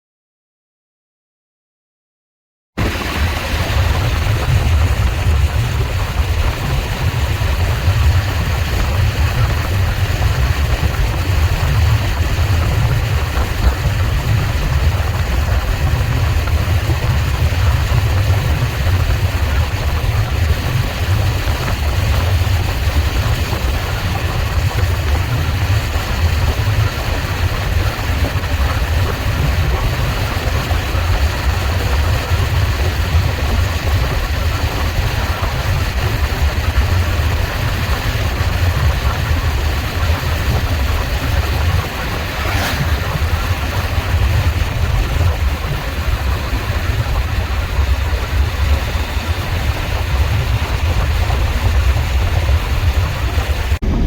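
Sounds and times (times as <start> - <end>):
vehicle engine rumbling: 2.8 - 54.0.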